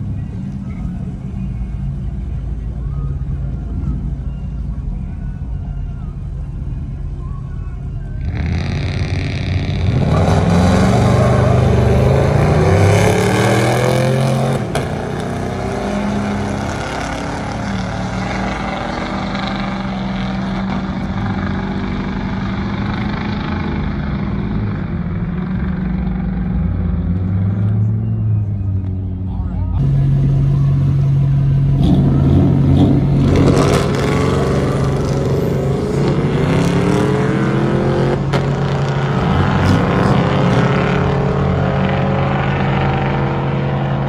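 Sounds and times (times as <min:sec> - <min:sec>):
truck engines accelerating hard: 0:00.0 - 0:44.0.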